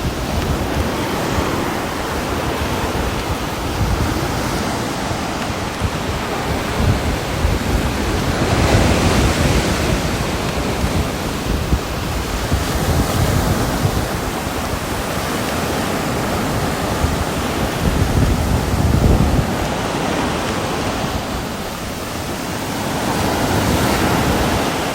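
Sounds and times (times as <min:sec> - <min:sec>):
heavy rain: 0:00.0 - 0:24.9.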